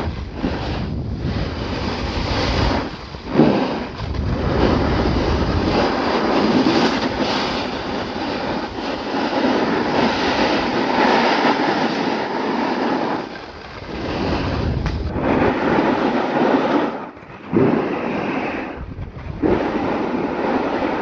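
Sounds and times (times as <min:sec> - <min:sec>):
skis scraping over packed snow: 0:00.0 - 0:21.0
wind on microphone: 0:00.0 - 0:21.0.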